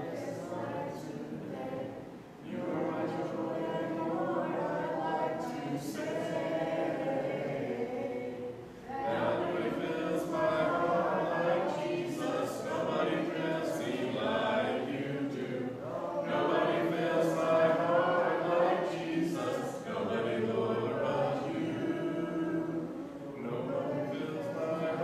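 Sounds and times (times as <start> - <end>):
congregation singing a cappella: 0.0 - 25.0.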